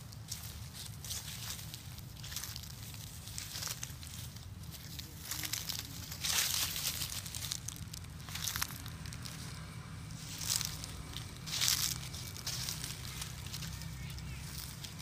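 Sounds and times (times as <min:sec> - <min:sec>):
dry leaves crackling underfoot: 0:00.0 - 0:15.0.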